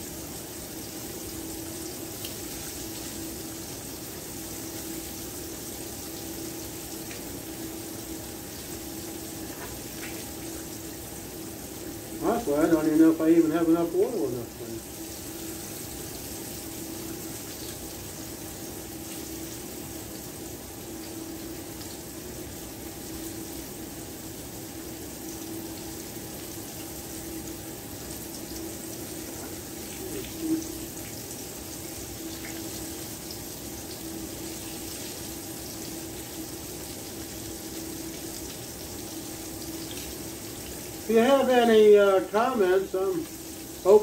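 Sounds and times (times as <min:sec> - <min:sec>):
squash sizzling in oil: 0:00.0 - 0:44.0.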